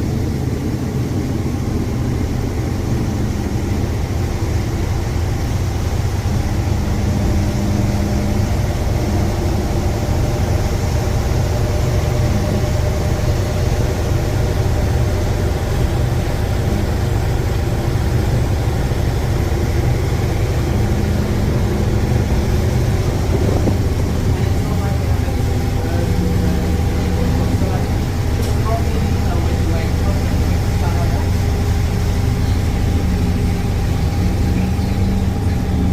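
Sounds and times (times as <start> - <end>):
boat engines droning: 0.0 - 35.9
higher engine tone: 0.0 - 35.9.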